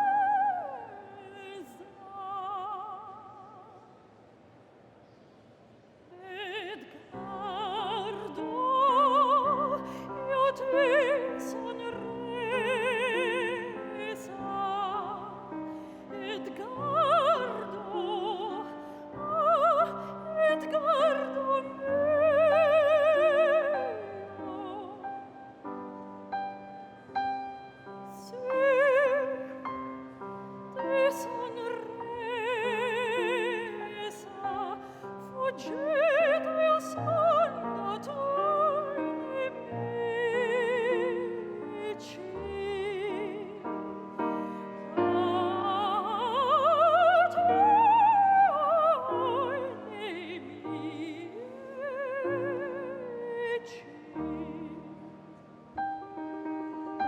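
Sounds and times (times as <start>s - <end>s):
piano accompaniment: 7.2s - 57.0s.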